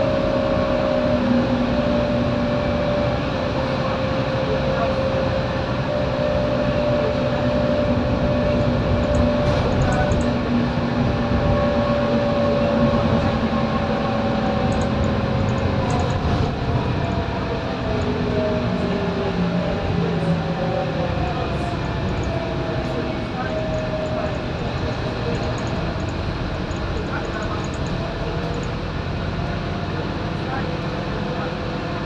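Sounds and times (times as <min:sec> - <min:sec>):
bus engine running: 0:00.0 - 0:32.0
drivetrain whine: 0:00.0 - 0:32.0.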